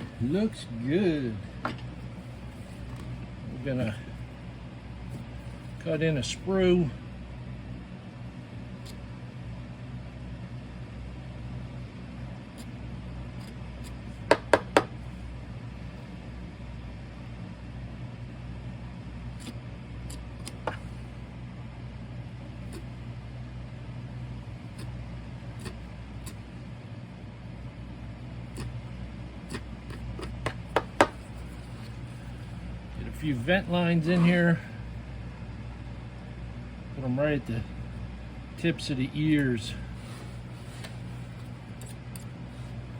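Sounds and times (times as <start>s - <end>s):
low electrical hum: 0.0s - 42.9s.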